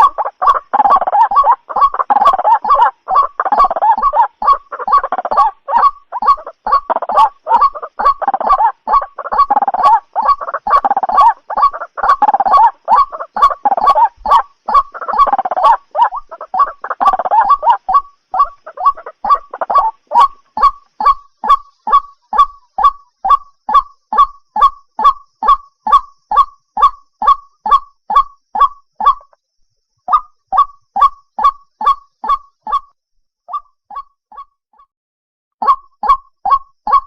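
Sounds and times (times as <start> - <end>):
waterhen calling: 0.0 - 29.4, 30.1 - 32.8, 35.6 - 37.0.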